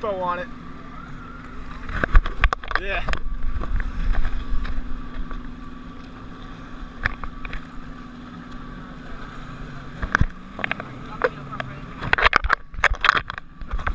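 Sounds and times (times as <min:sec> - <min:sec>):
jet ski engine running: 0:00.0 - 0:13.9
water and wind noise: 0:00.0 - 0:13.9.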